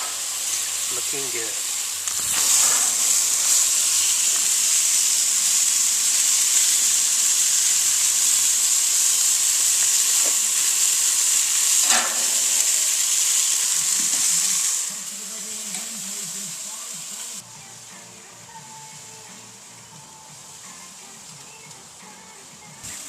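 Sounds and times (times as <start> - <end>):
food sizzling on a grill: 0.0 - 23.0
grill crackle: 0.0 - 23.0.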